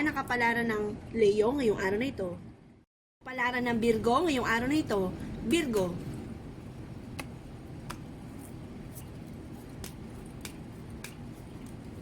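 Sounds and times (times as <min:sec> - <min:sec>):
steady low hum: 0:02.3 - 0:12.0.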